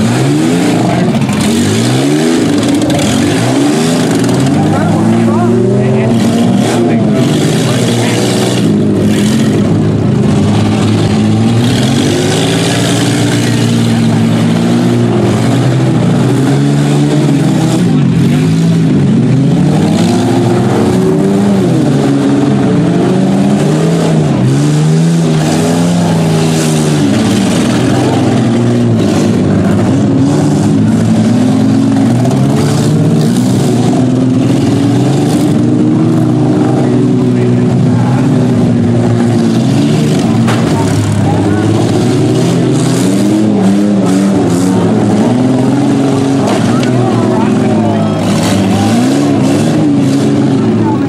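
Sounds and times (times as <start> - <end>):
engines revving: 0.0 - 51.0.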